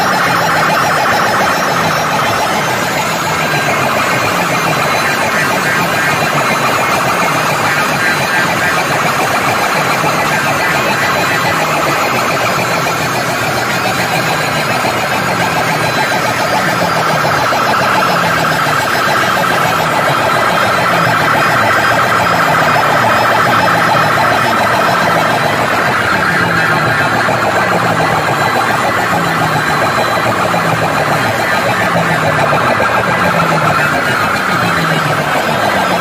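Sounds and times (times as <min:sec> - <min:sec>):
loud electronic dance music: 0:00.0 - 0:36.0.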